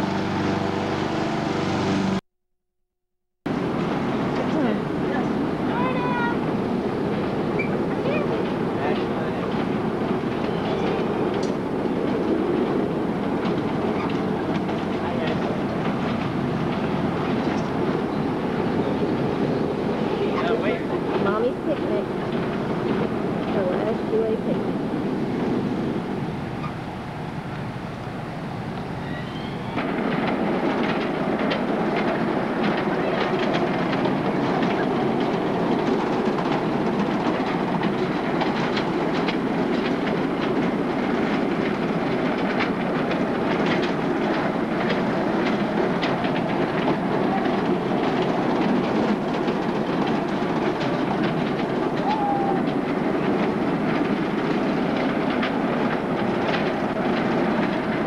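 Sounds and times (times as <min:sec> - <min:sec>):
outdoor ambient noise: 0:03.5 - 0:58.0
ride train rolling and clicking: 0:03.5 - 0:58.0.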